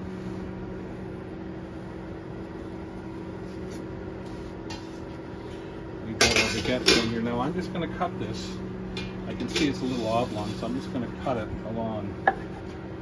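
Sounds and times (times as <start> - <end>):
electric appliance hum: 0.0 - 13.0.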